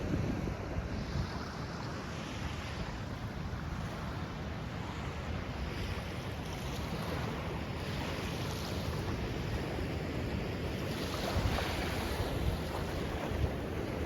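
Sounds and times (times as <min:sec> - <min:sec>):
surf washing onto beach: 0:00.0 - 0:14.0
wind buffeting microphone: 0:00.0 - 0:14.0.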